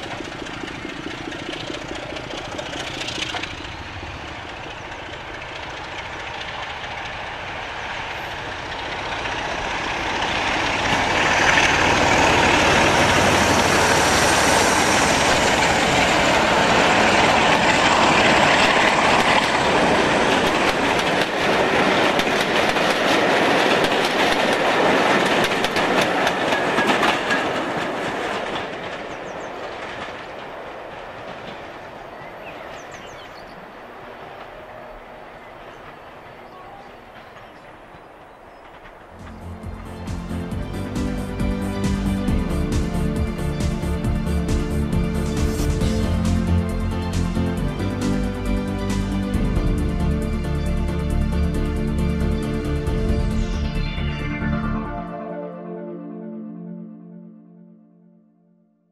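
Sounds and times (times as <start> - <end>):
train wheels clattering over rails: 0.0 - 48.2
diesel locomotive engine: 0.0 - 55.3.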